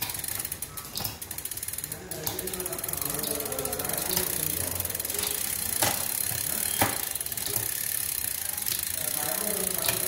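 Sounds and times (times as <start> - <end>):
bicycle chain running over cassette: 0.0 - 10.0
steady ticking: 0.0 - 10.0.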